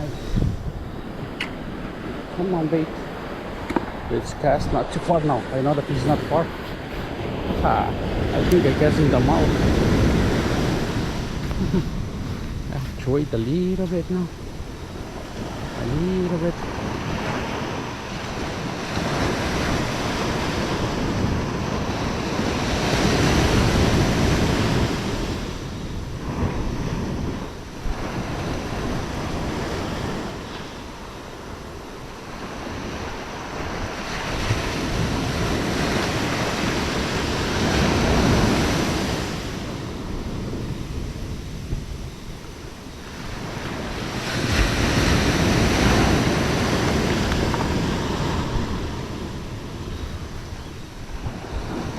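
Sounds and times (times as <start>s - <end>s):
sea waves washing in: 0.0s - 51.9s
wind noise on microphone: 0.0s - 51.9s.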